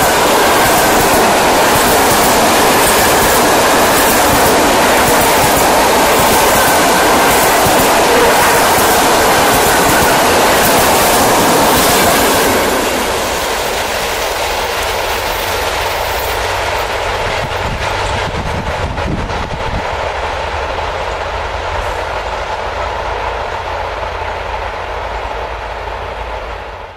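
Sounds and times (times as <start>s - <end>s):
train wheels rumbling over rails: 0.0s - 26.9s.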